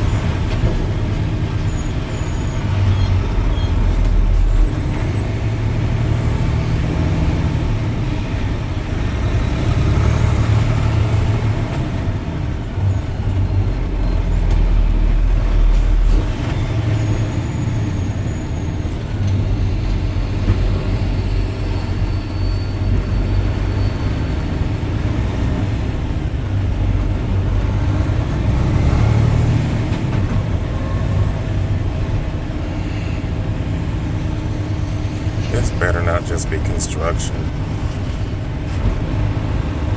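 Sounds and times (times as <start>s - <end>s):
heavy trucks in traffic: 0.0s - 39.9s
tyre and engine noise: 0.0s - 39.9s.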